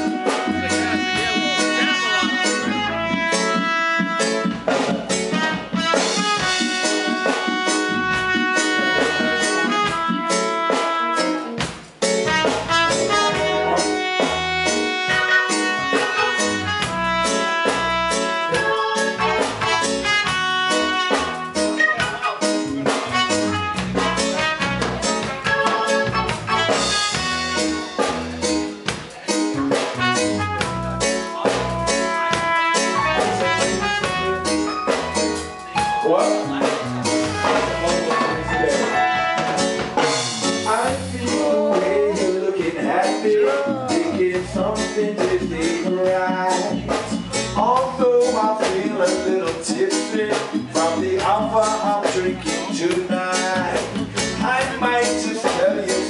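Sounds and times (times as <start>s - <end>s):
reggae band playing: 0.0s - 56.0s.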